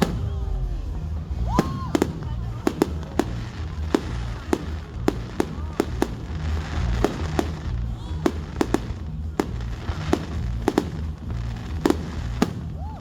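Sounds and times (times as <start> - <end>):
fireworks bangs: 0.0 - 13.0
low continuous rumble: 0.0 - 13.0.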